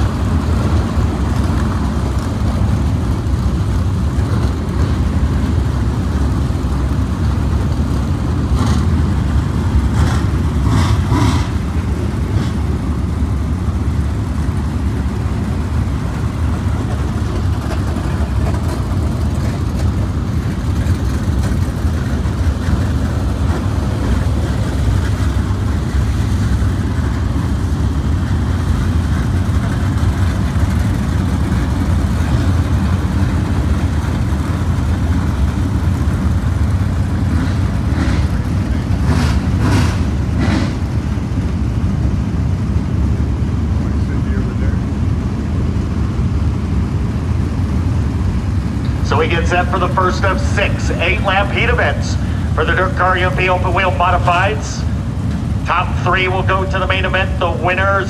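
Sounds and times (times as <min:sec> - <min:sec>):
race car engines rumbling: 0:00.0 - 0:58.0.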